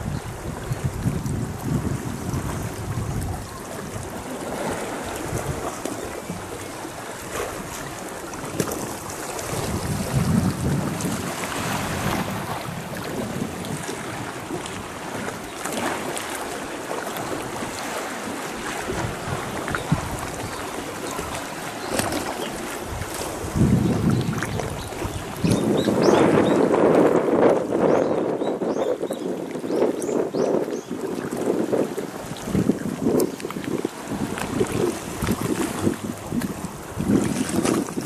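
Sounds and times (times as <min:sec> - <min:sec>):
small waves lapping on rocks: 0:00.0 - 0:28.4, 0:29.0 - 0:38.0
wind buffeting microphone: 0:00.0 - 0:38.0.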